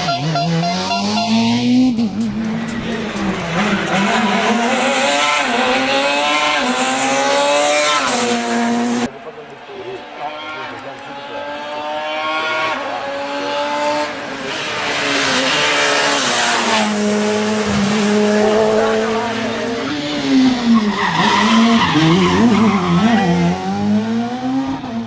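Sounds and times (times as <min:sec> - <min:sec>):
rally car engine at full throttle: 0:00.0 - 0:25.0
tyre and road noise: 0:00.0 - 0:25.0.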